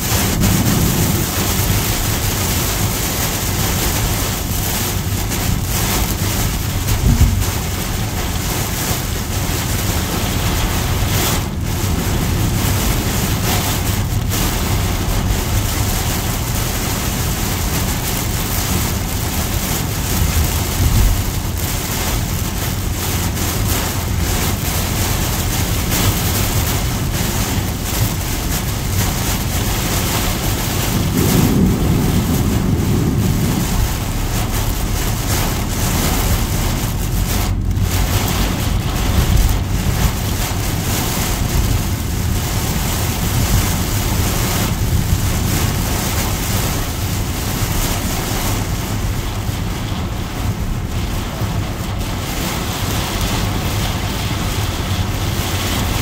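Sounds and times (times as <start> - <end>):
heavy rain on car roof: 0.0 - 56.0
tyres on wet road: 0.0 - 56.0.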